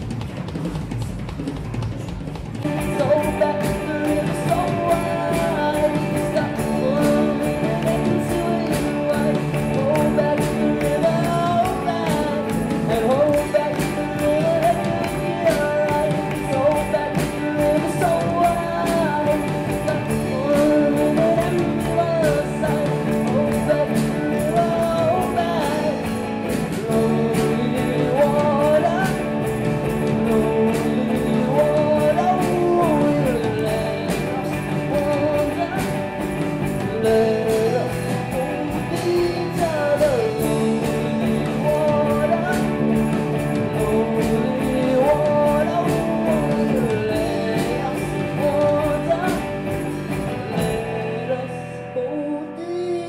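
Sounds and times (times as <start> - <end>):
drums beat: 0.0 - 51.6
bass guitar: 0.0 - 53.0
electric guitars: 0.0 - 53.0
lead guitar melody: 2.6 - 53.0.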